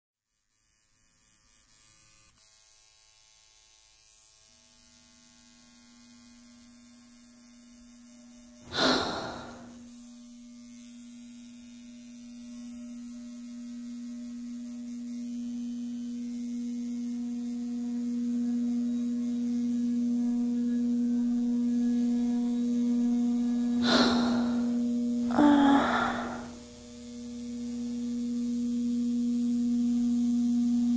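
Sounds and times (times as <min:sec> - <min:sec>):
tattoo machine buzzing: 0:00.2 - 0:30.9.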